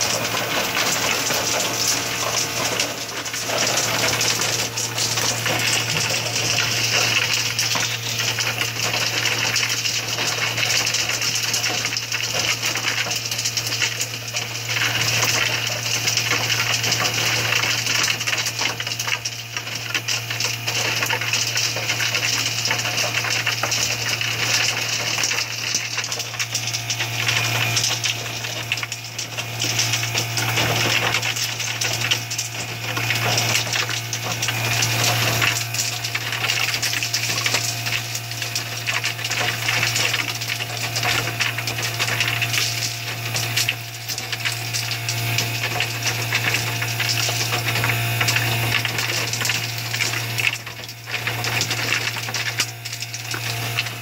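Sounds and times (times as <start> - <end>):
ice cubes clattering into bin: 0.0 - 54.0
ice machine humming: 0.0 - 54.0.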